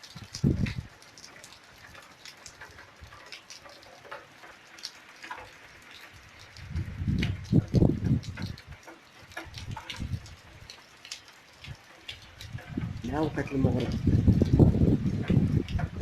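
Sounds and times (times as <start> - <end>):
rain drops pattering: 0.0 - 16.0.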